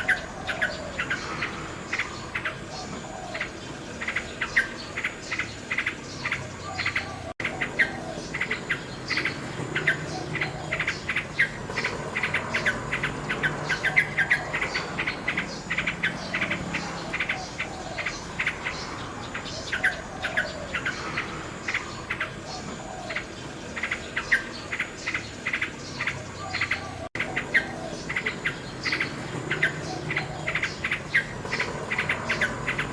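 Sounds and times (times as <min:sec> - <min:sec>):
faint high insect-like hum: 0:00.0 - 0:32.9
nightingale singing: 0:00.0 - 0:32.9.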